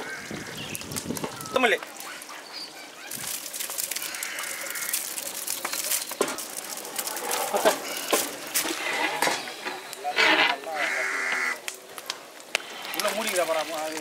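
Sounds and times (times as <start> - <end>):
wood fire crackling: 0.0 - 14.0
faint voices: 1.3 - 14.0.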